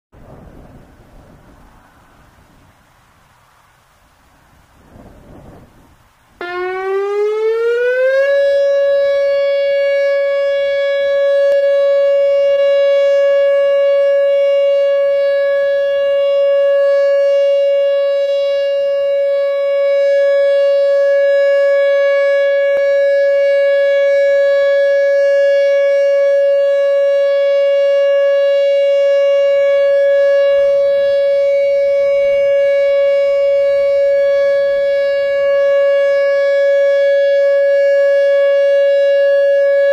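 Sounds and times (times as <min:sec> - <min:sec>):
electronic warning siren tone: 0:06.4 - 0:39.9.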